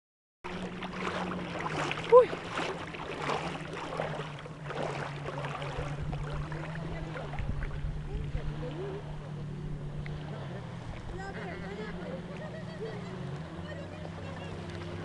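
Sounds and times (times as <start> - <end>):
boat motor humming: 0.4 - 15.0
wind: 0.4 - 15.0
water washing: 0.5 - 15.0.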